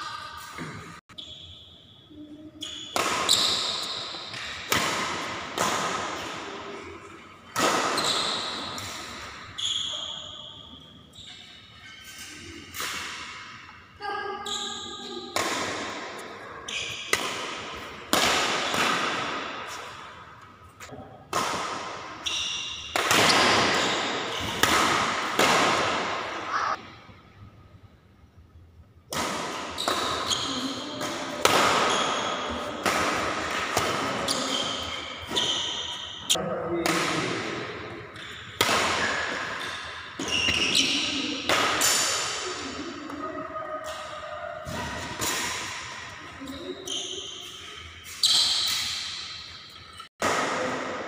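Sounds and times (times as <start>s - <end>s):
rackets hitting shuttlecock: 2.6s - 9.6s, 12.0s - 13.8s, 15.0s - 26.8s, 29.1s - 43.2s, 43.8s - 46.2s, 47.0s - 51.0s.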